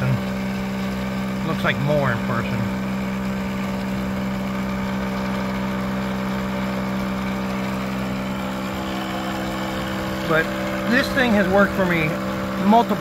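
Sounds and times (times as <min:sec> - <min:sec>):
air compressor humming: 0:00.0 - 0:13.0.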